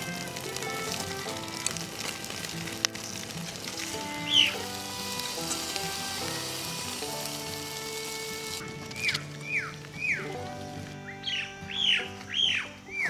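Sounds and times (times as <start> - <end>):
background music: 0.0 - 13.0
meat sizzling on grill: 0.0 - 13.0.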